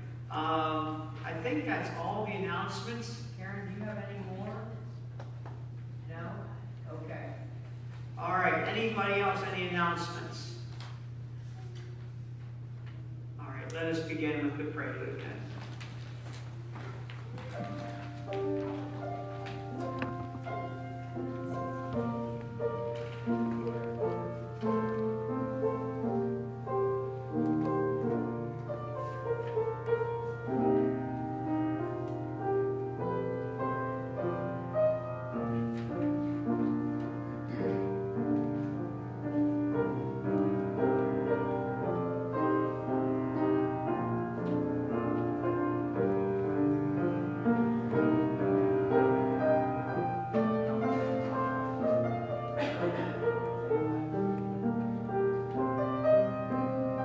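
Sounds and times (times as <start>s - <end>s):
slow classical piano: 0.0s - 57.0s.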